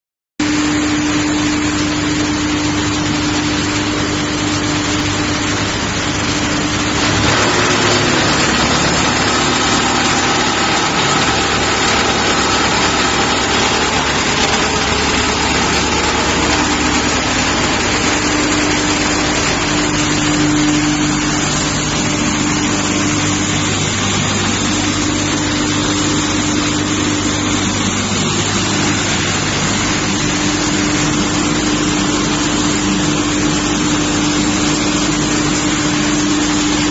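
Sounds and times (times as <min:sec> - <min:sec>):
constant machine hum: 0:00.4 - 0:36.9
wood chipper running: 0:00.4 - 0:36.9.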